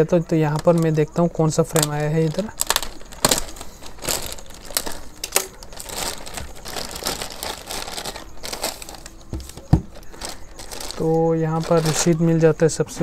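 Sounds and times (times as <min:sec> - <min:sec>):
plastic mailer bag crinkling: 0:00.4 - 0:13.0.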